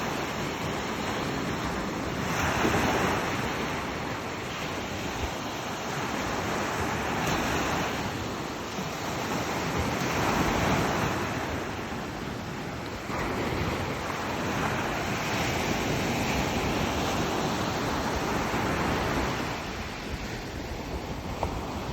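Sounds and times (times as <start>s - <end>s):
ocean waves breaking on beach: 0.0s - 21.9s
wind on microphone: 0.0s - 21.9s.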